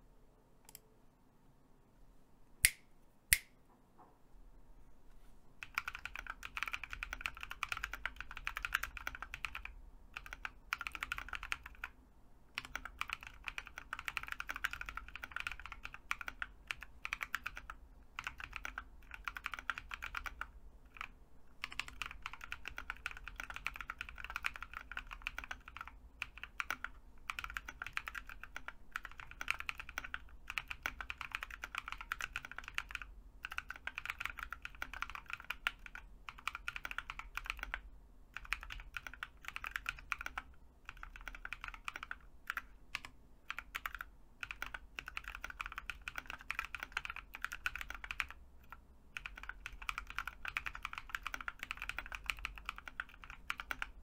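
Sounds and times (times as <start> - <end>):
typing on mechanical keyboard: 5.6 - 54.0.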